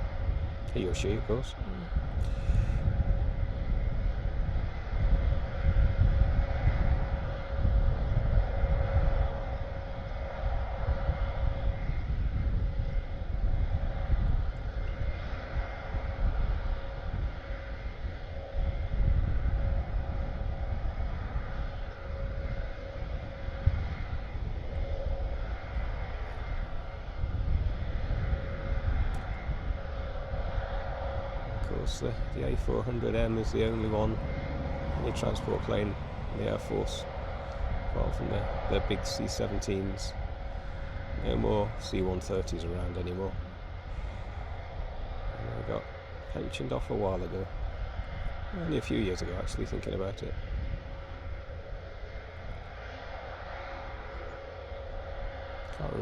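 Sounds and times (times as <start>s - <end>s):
turboprop engines running: 0.0s - 56.0s.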